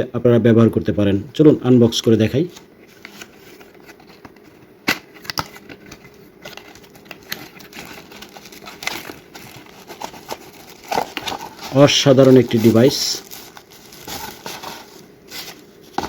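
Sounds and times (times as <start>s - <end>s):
packaging rustling: 2.4s - 16.0s
packaging clicks: 3.1s - 16.0s.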